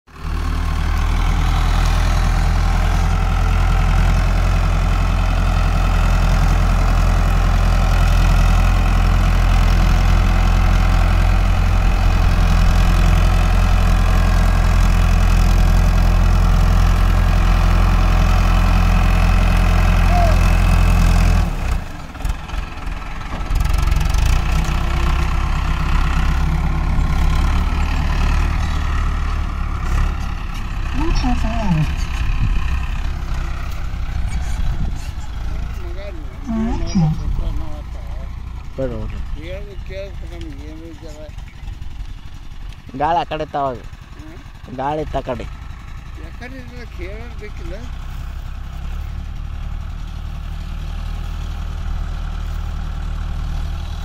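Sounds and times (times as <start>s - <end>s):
tractor diesel engine under load: 0.1s - 54.0s.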